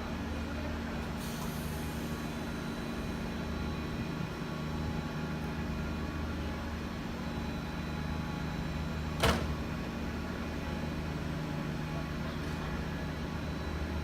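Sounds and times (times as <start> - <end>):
electric train humming: 0.0 - 11.8.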